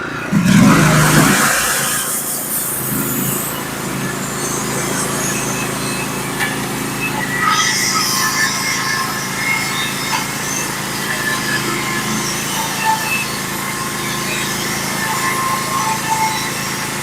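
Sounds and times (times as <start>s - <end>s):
sawmill engine revving: 0.0s - 17.0s.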